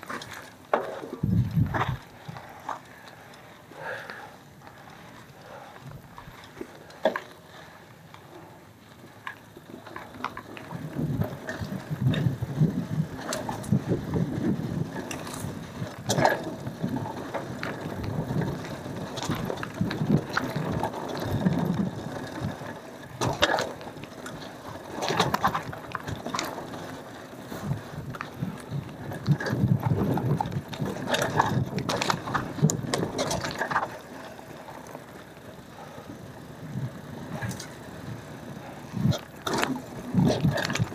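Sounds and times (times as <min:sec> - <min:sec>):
bike rattling over bumps: 0:00.0 - 0:40.9
bike tyres rumbling on dirt: 0:00.0 - 0:40.9.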